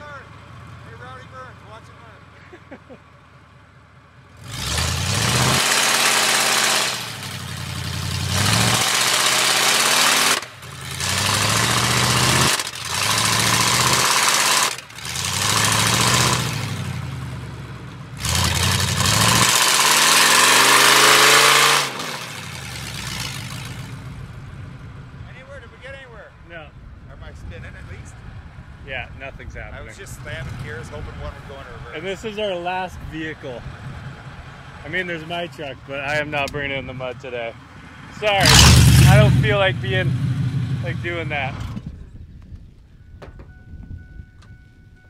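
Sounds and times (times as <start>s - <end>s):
truck engine revving: 0.0s - 26.1s, 27.1s - 42.1s.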